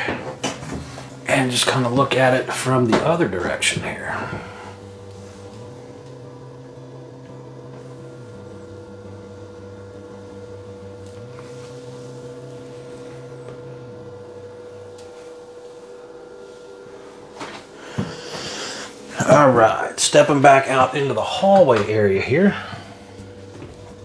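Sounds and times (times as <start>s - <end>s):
low machine drone: 0.0s - 24.0s
motor whine: 0.0s - 24.0s.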